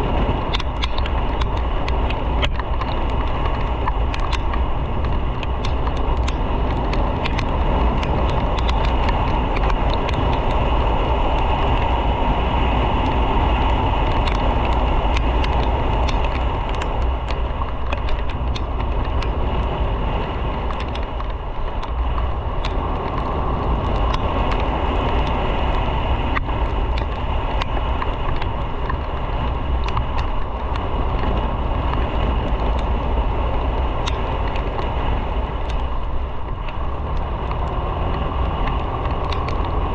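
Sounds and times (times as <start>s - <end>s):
faint ticks: 0.0s - 12.3s, 12.9s - 39.9s
motorcycle engine and road noise: 0.0s - 39.9s
wind rush: 0.0s - 39.9s.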